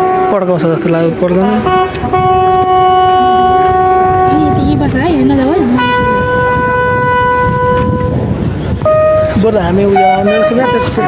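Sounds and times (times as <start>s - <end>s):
horn playing long held notes: 0.0s - 11.0s.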